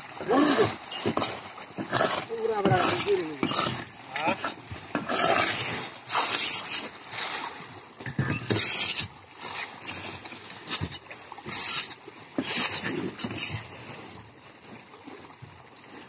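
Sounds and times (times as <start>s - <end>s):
fish thrashing and splashing: 0.0s - 14.3s.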